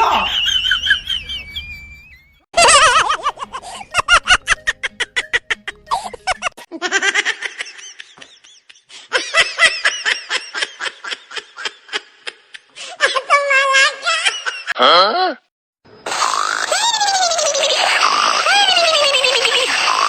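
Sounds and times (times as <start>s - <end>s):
high-pitched laughter: 0.0s - 12.4s, 16.1s - 20.0s.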